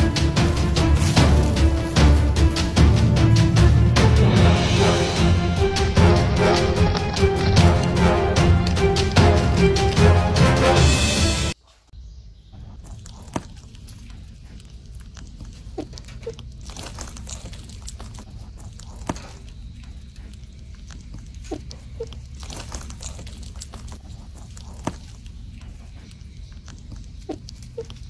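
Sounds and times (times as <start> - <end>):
rabbits chewing grass: 0.0 - 11.6, 12.4 - 28.0.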